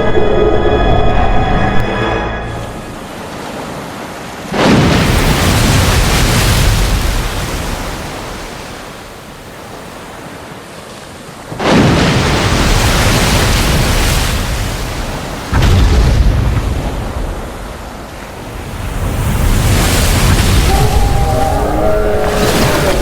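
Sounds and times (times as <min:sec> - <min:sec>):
sea water crashing: 0:00.0 - 0:23.0.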